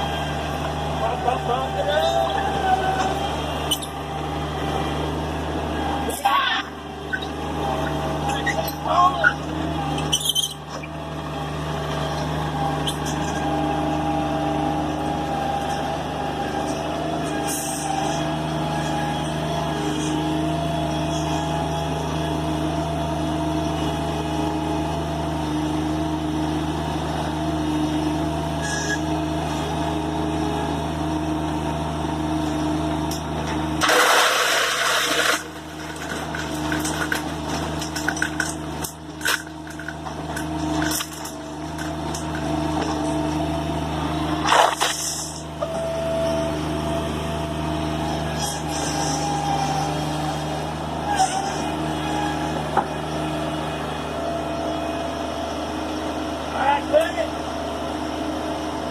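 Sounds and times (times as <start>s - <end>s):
engine running: 0.0s - 58.9s.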